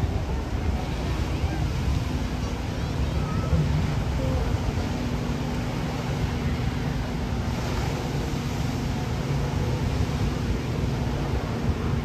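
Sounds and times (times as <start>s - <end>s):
steady rushing noise: 0.0s - 12.0s
wind buffeting microphone: 0.0s - 12.0s.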